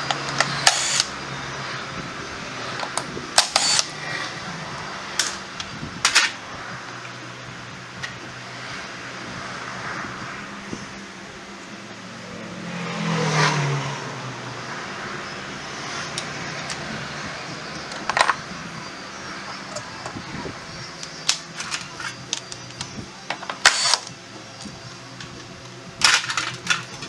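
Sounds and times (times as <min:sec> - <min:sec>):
motor vehicle engine: 0:00.0 - 0:27.0.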